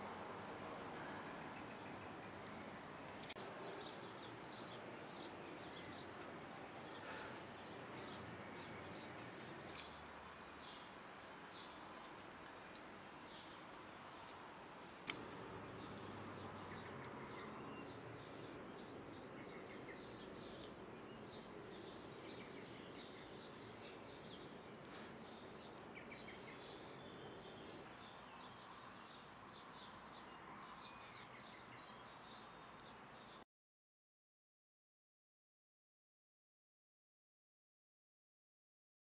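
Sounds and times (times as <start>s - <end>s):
low background noise: 0.0s - 33.4s
small birds chirping: 0.2s - 33.4s.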